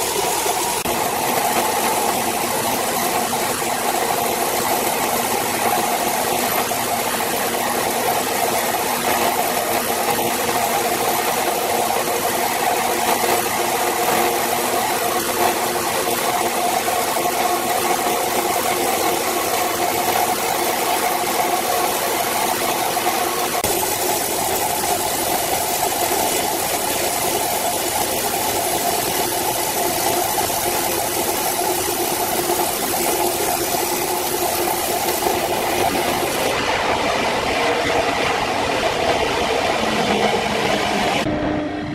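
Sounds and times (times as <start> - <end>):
band saw cutting wood: 0.0 - 41.3.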